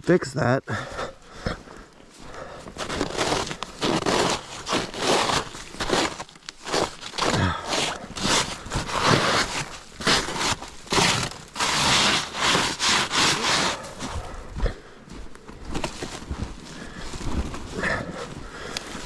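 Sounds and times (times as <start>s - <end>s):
footsteps crunching through snow: 0.8s - 19.0s
shuffling: 0.9s - 19.0s.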